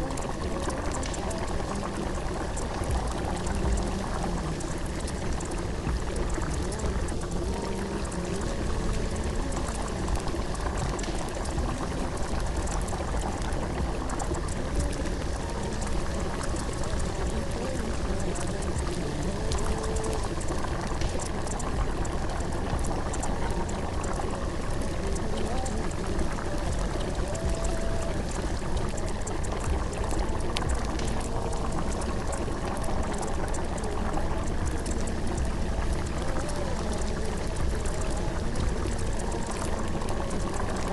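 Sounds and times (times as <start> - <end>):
rushing water with crackle: 0.0 - 40.9.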